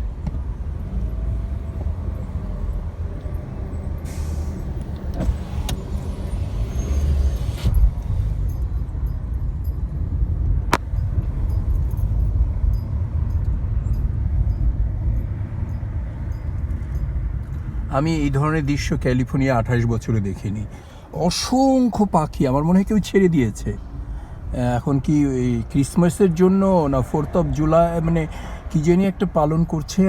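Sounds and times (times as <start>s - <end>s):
car rumbling on road: 0.0s - 30.0s.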